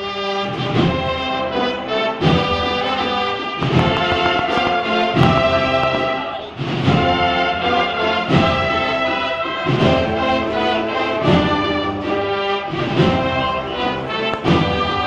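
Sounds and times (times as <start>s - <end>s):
brass band playing a slow march: 0.0s - 15.0s.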